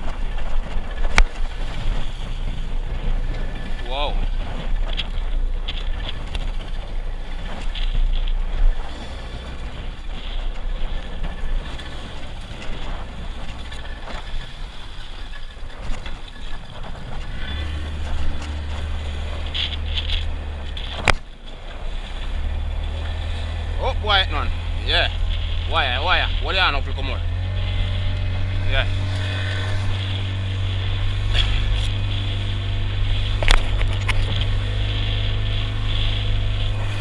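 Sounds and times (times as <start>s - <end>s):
boat motor drone: 0.0s - 37.0s
rushing wind: 0.0s - 37.0s
water splashing at hull: 0.0s - 37.0s.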